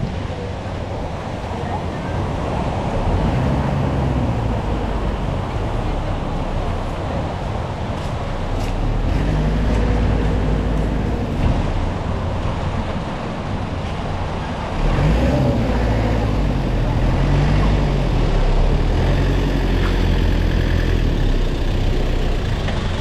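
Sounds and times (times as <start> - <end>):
passing vehicle engines: 0.0 - 23.0
roadway hum: 0.0 - 23.0.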